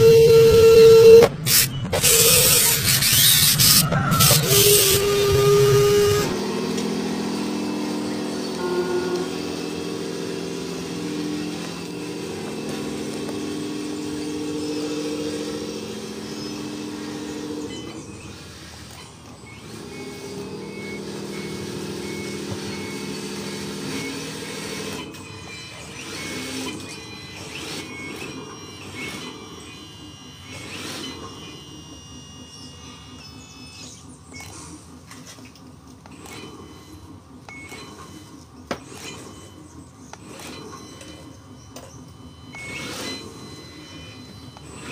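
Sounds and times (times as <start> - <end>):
model truck motor whir: 0.0 - 44.9.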